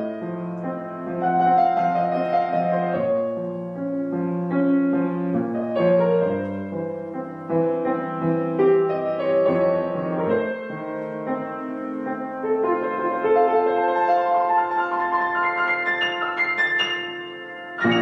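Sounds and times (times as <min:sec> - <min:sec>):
calm slow piano music: 0:00.0 - 0:18.0.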